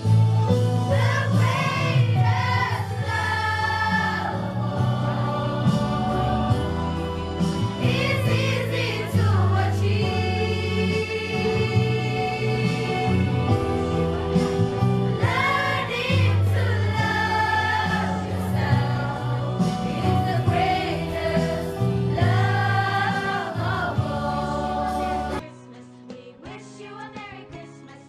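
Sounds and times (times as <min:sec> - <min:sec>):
choir singing: 0:00.8 - 0:27.4.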